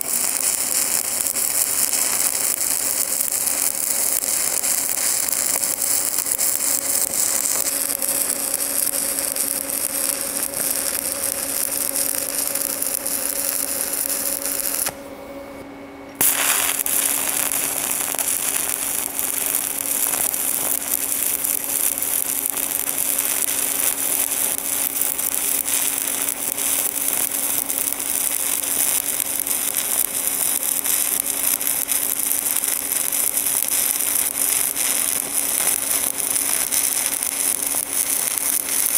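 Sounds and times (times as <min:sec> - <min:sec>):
welding arc crackling: 0:00.0 - 0:15.0, 0:16.2 - 0:38.9.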